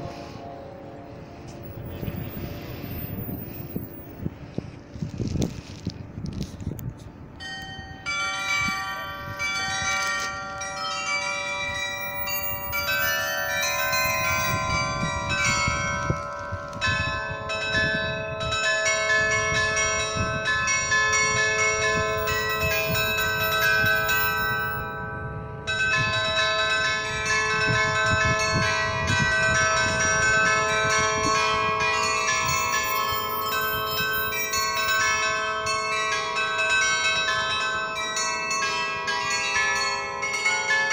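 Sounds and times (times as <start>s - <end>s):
tuned bells playing a tune: 7.3s - 40.9s.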